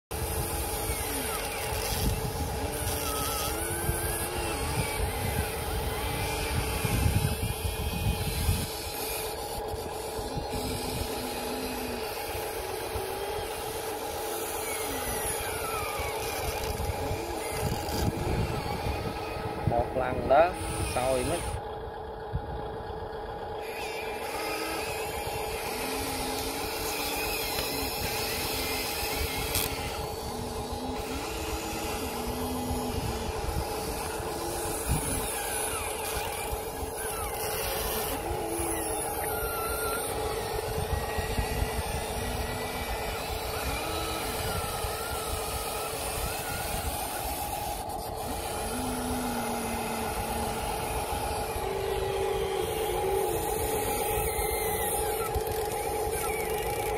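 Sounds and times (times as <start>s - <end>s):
steady mechanical hum: 0.0s - 56.9s
electric motors whining: 0.1s - 56.9s.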